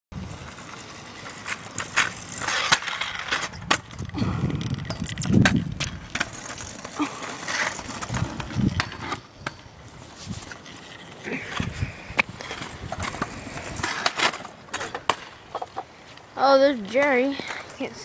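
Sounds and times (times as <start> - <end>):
scooter wheels rolling on pavement: 0.2 - 18.0.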